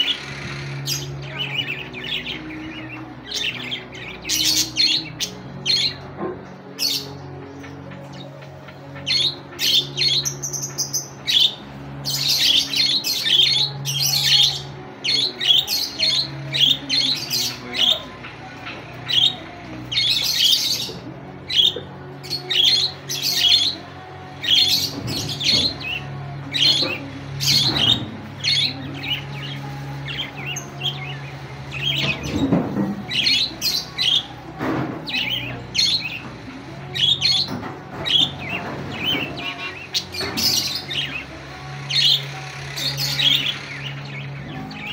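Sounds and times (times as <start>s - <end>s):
budgerigars chattering: 0.0s - 34.4s, 35.1s - 44.9s.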